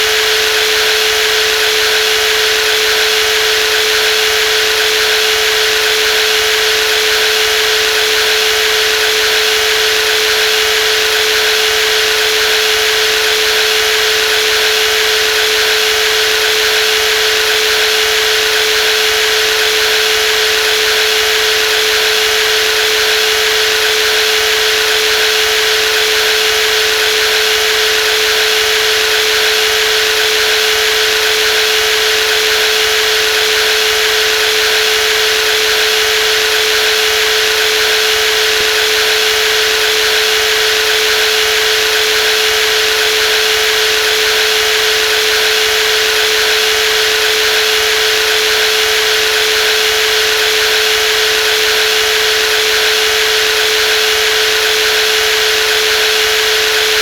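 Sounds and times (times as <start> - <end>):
jigsaw running: 0.0 - 57.0.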